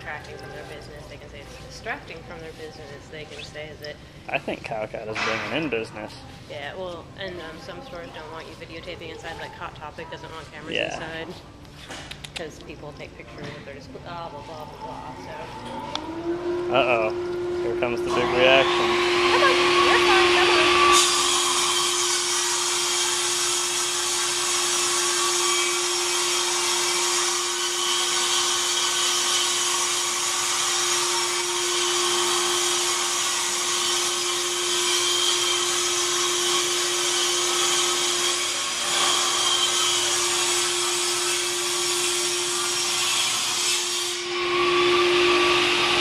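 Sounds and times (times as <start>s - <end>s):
motorised machine humming and hissing: 0.0s - 11.3s, 14.0s - 46.0s.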